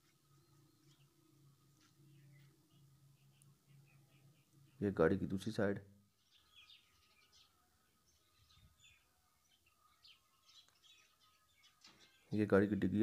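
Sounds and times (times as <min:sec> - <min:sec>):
distant bird chirps: 0:00.0 - 0:12.7.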